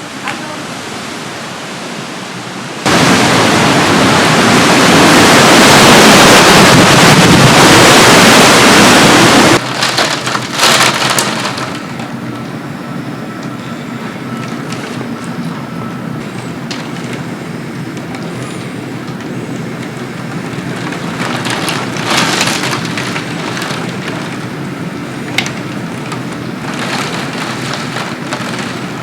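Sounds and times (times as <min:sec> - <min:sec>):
heavy rain: 0:00.0 - 0:29.0
strong wind: 0:00.0 - 0:29.0.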